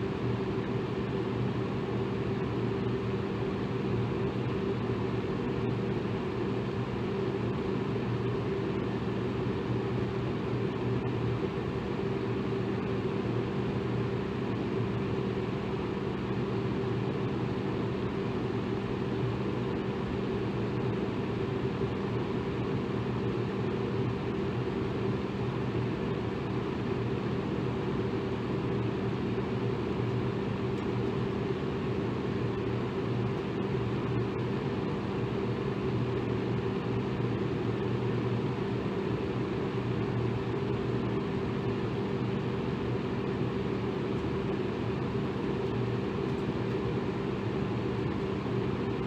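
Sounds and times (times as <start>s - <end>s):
electric fan running: 0.0s - 49.0s.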